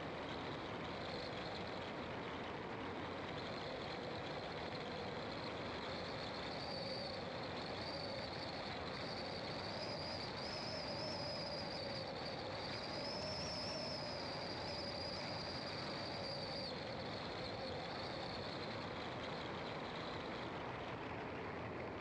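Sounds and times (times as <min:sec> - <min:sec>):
car engine and tyre noise: 0:00.0 - 0:22.0.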